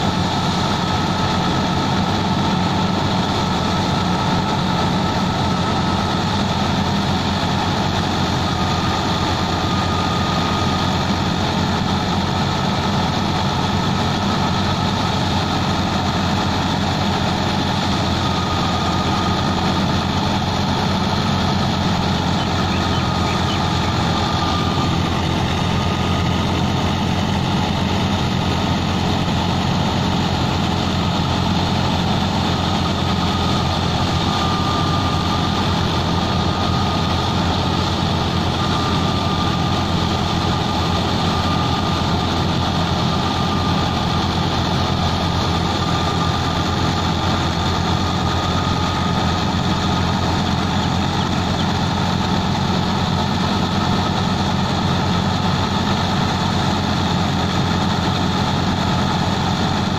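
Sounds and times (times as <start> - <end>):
thresher drum drone: 0.0 - 59.9
tractor diesel engine running: 0.0 - 59.9.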